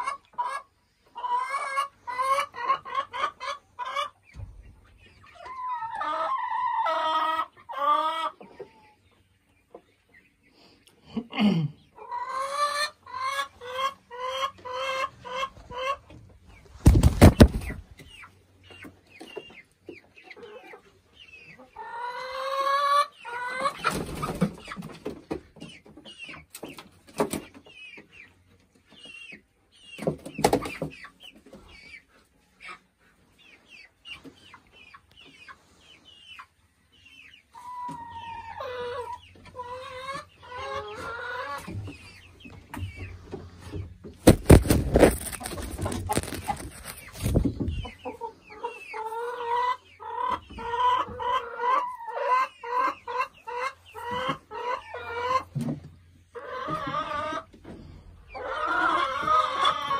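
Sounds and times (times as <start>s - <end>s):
hens clucking and calling: 0.0s - 59.9s.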